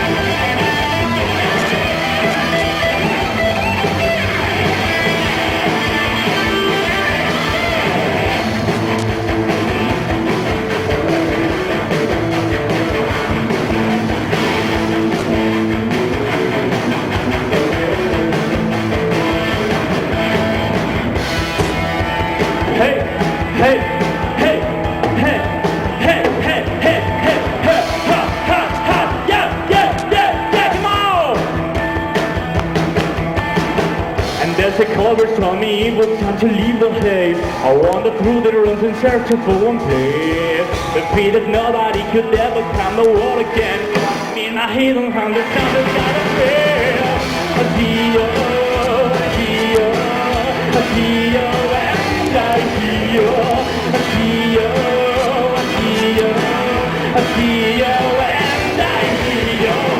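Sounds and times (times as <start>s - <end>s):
electric guitar: 0.0s - 59.9s
rock band playing: 0.0s - 59.9s.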